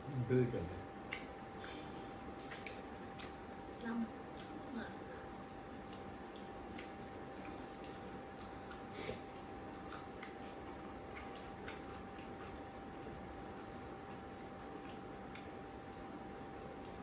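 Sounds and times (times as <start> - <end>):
person chewing food: 0.9 - 17.0.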